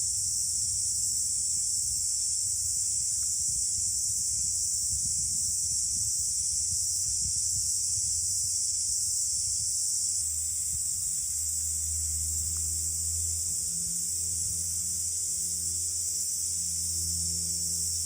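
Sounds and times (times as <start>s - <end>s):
wind rumbling on microphone: 0.0s - 15.5s
insect chorus: 0.0s - 18.0s
steady low hum: 0.0s - 18.0s.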